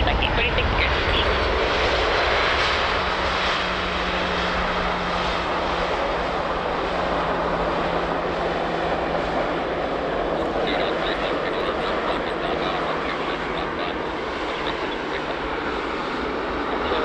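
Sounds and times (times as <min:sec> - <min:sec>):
jet engine rushing noise: 0:00.0 - 0:17.0
low hum: 0:00.0 - 0:17.0.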